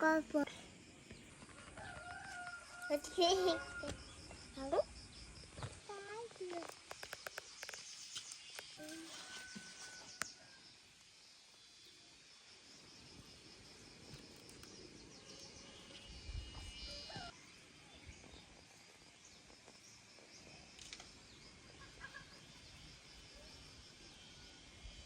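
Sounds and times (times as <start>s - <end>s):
insect chorus: 0.0s - 25.0s.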